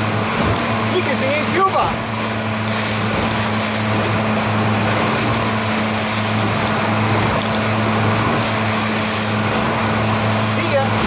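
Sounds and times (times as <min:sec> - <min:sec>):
motorboat engine drone: 0:00.0 - 0:11.0
wind and water rushing: 0:00.0 - 0:11.0.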